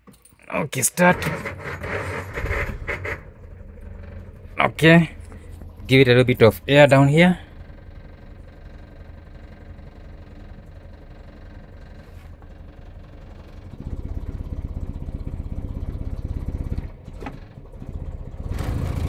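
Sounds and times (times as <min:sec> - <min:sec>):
petrol engine idling and revving: 0:00.8 - 0:19.0.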